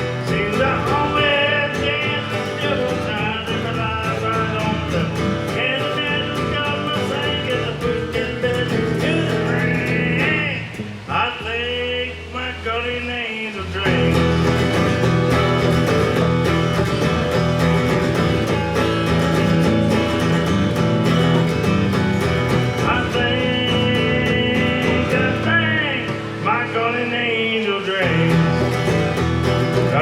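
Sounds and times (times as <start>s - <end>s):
live country band playing: 0.0s - 11.1s, 13.8s - 30.0s
sliding lead guitar notes: 0.0s - 13.0s, 13.8s - 30.0s.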